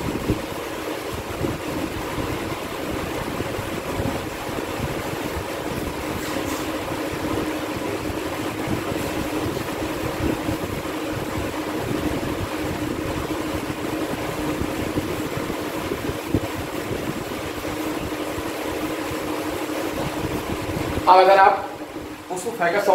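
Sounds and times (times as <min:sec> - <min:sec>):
steady mechanical hum: 0:00.0 - 0:22.9.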